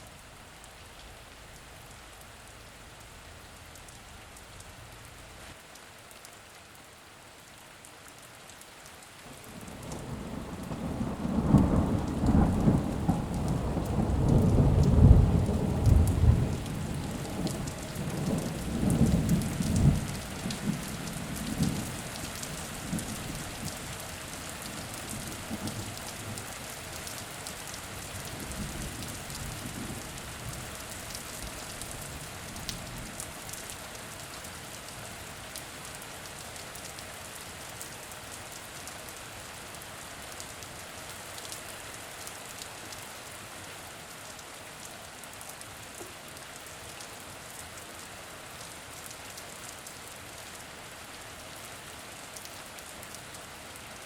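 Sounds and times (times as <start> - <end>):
rain on a hard surface: 0.0 - 54.0.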